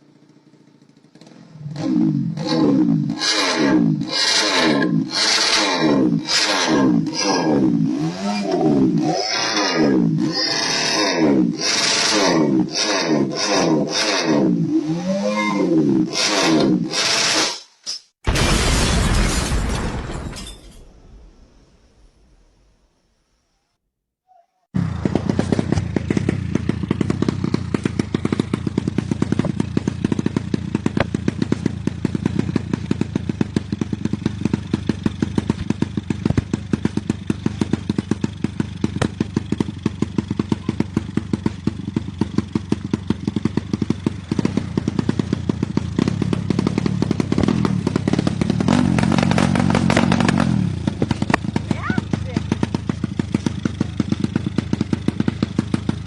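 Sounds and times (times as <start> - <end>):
motorcycle engine running: 0.0 - 17.1, 24.8 - 56.0.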